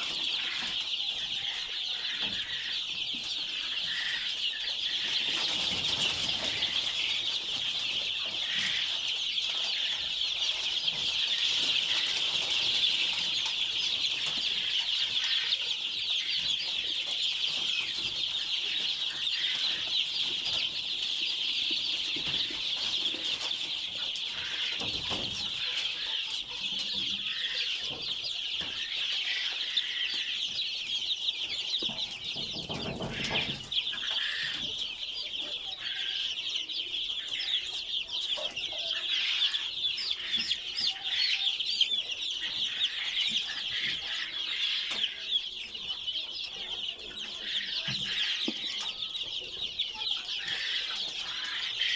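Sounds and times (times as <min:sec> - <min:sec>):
chickens calling: 0:00.0 - 0:51.9.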